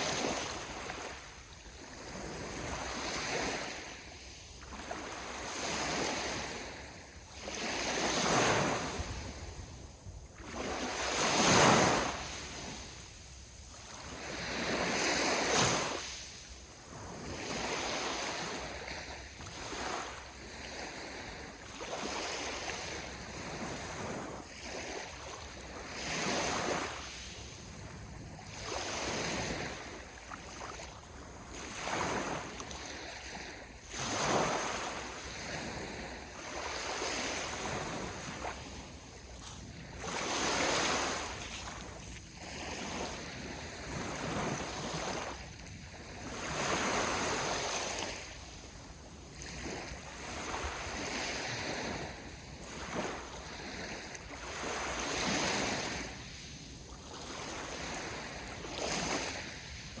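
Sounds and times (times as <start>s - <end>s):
sea waves washing onto shore: 0.0s - 60.0s
wind on microphone: 0.0s - 60.0s.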